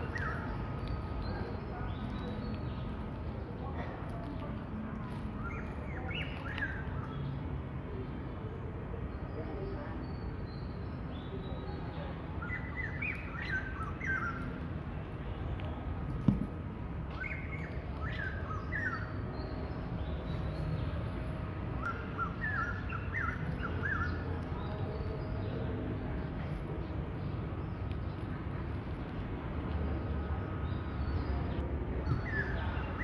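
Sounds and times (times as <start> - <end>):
songbird chirping: 0.0 - 8.4, 9.0 - 33.0.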